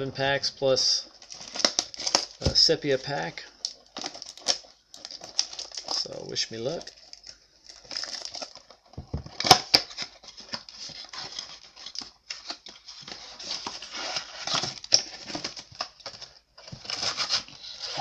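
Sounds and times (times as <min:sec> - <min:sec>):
cellophane and cardboard crinkling: 0:00.8 - 0:18.0.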